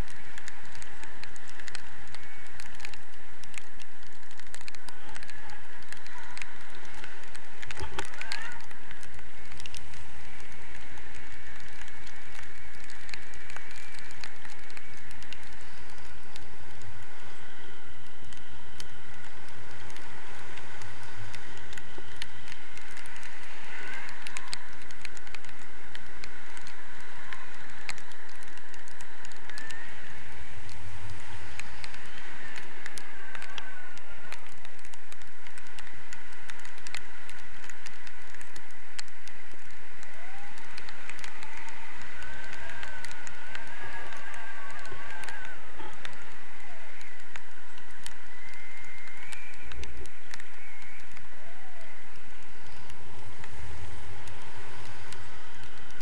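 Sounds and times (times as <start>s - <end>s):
crackling and rattling clicks: 0.0s - 56.0s
wind rushing over microphone: 0.0s - 56.0s.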